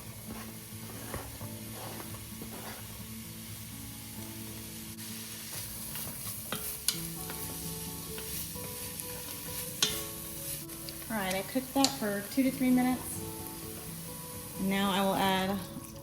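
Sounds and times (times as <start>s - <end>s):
vegetables sizzling in a pot: 0.0s - 16.0s.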